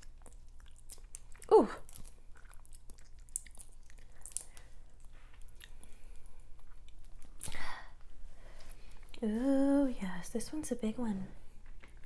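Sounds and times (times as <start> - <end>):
chewing and wet mouth sounds: 0.0 - 9.3, 11.4 - 12.0.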